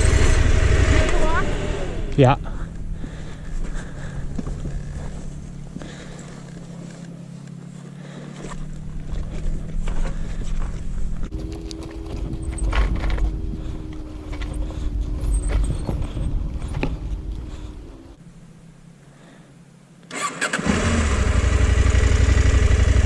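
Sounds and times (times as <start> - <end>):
motorcycle engine revving: 0.0 - 18.2, 20.2 - 23.0.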